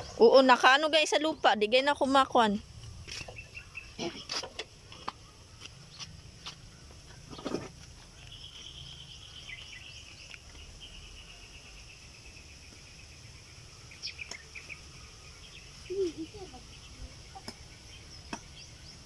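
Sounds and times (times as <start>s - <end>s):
insect hiss: 2.4s - 19.0s.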